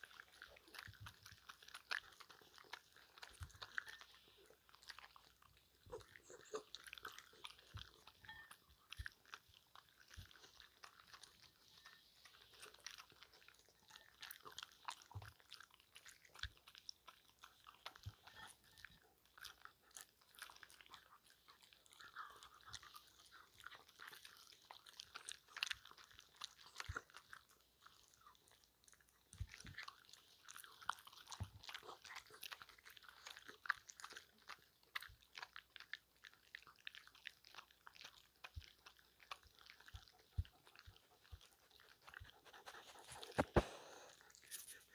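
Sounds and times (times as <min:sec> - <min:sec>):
dogs crunching hard treats: 0:00.0 - 0:44.9.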